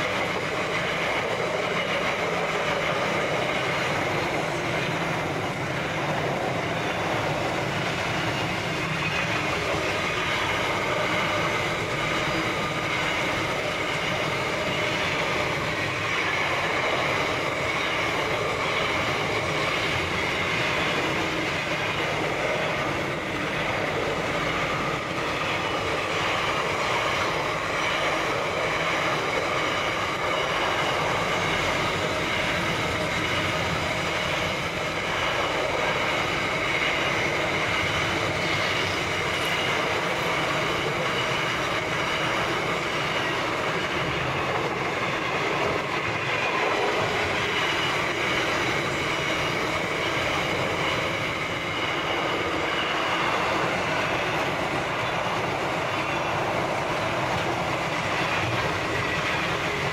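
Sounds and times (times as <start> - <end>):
freight train wheels rolling: 0.0 - 59.9.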